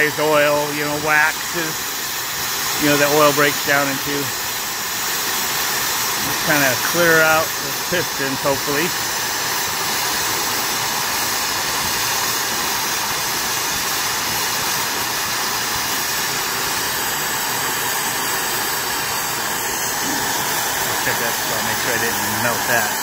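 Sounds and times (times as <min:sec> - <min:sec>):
nitrogen blowing through pipe: 0:00.0 - 0:23.0
torch flame hissing: 0:00.0 - 0:23.0.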